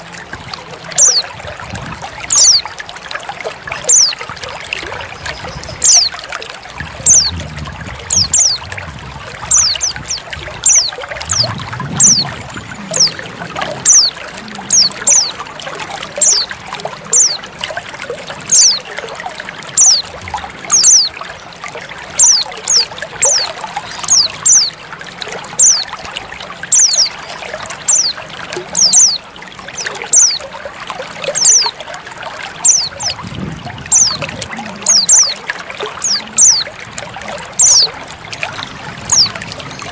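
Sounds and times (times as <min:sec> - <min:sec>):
trickling splashing water: 0:00.0 - 0:39.9.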